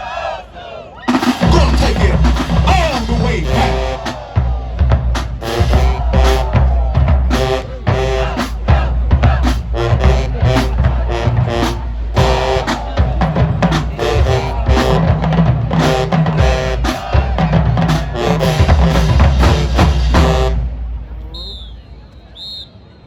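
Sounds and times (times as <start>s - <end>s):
marching band playing: 1.1s - 21.4s
heavy bass drum: 1.2s - 20.7s.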